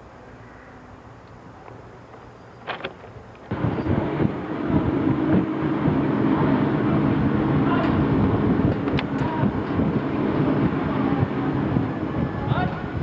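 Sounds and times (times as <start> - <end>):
heavy machinery humming: 0.0 - 13.0.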